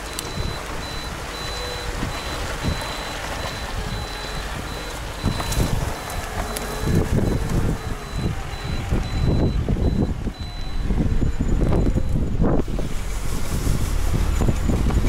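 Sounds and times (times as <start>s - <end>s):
high electronic warning beep: 0.0s - 12.4s
car engine running: 0.0s - 15.0s
low thuds and rumbles: 0.0s - 15.0s.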